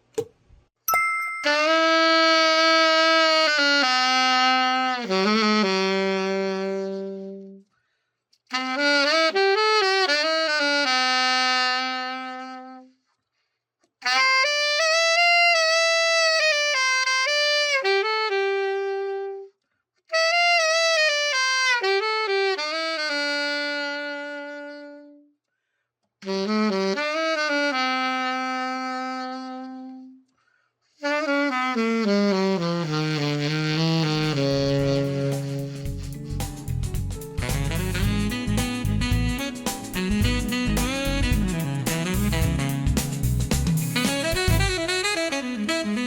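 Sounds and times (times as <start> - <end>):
alto saxophone melody: 1.4 - 7.7, 8.4 - 13.1, 14.0 - 25.4, 26.2 - 30.3, 31.0 - 46.0.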